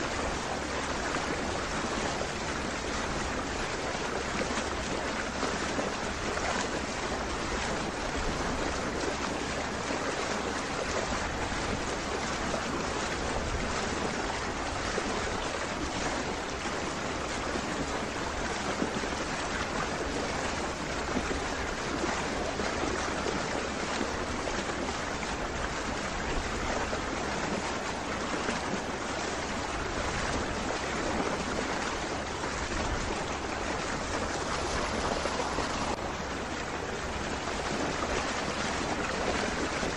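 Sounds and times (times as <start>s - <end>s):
water rushing along boat hull: 0.0s - 39.9s.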